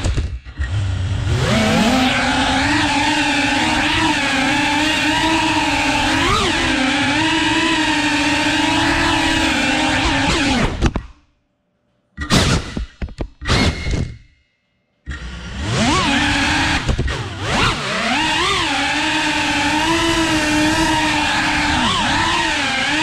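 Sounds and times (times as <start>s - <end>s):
drone motors whining: 0.1s - 10.9s, 15.1s - 23.0s.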